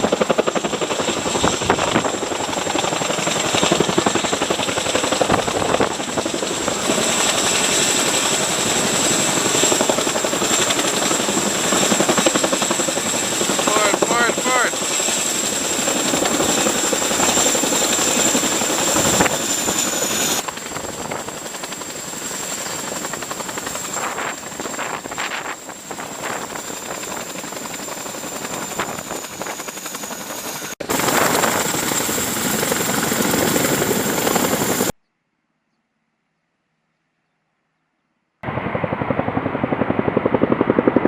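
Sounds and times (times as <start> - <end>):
helicopter rotor and turbine noise: 0.0 - 35.0, 38.4 - 41.0.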